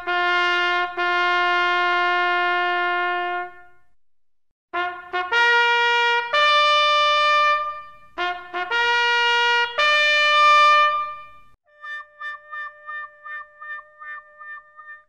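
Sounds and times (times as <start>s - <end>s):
solo trumpet playing: 0.0s - 3.8s, 4.8s - 15.0s.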